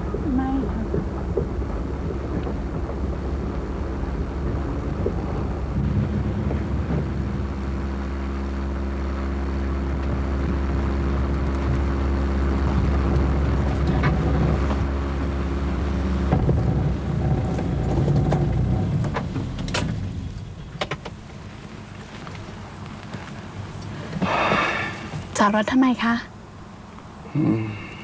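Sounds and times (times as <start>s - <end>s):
car engine running: 0.0s - 27.5s.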